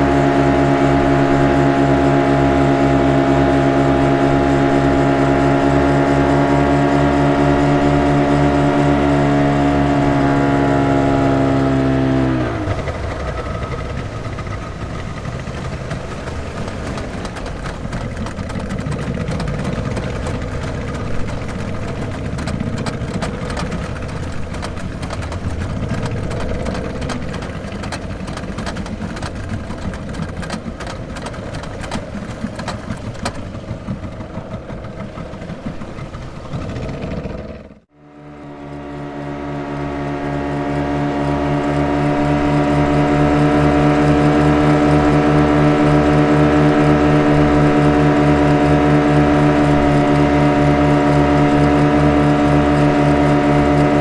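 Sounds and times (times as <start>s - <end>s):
speedboat engine running: 0.0s - 54.0s
steady pitched engine hum: 0.0s - 54.0s
water and wind hiss: 0.0s - 54.0s.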